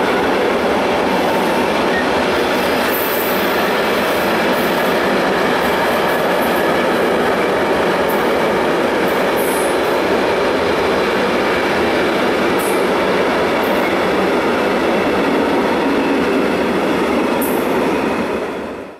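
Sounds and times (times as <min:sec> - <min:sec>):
freight train wheels rumbling: 0:00.0 - 0:18.9.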